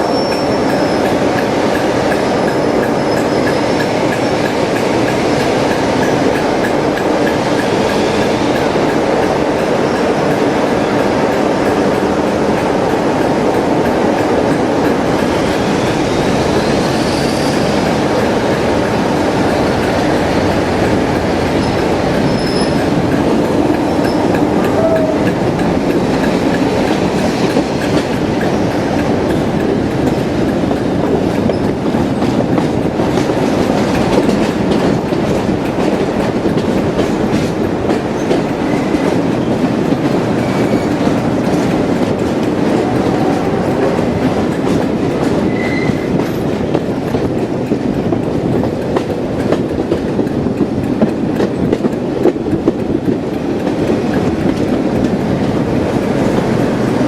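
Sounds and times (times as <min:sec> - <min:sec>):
train rumbling: 0:00.0 - 0:57.0
wheels clicking over rail joints: 0:00.0 - 0:57.0.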